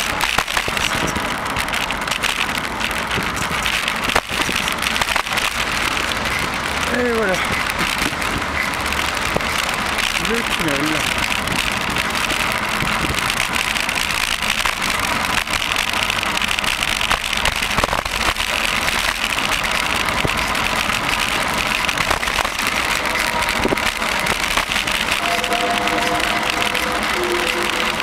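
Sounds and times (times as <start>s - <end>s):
tyres rumbling on asphalt: 0.0s - 28.0s.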